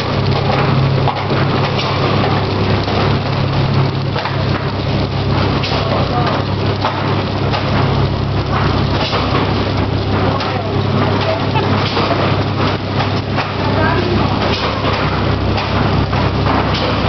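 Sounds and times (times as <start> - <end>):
low machine hum: 0.0 - 17.0
wrapping machine crackle and clatter: 0.0 - 17.0.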